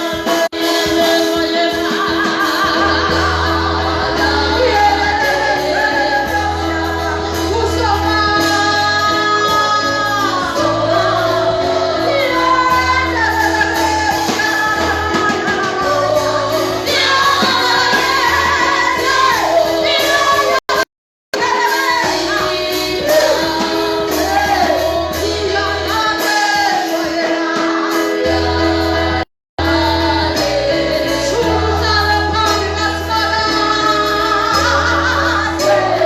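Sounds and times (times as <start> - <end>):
gospel singing: 0.0 - 36.0.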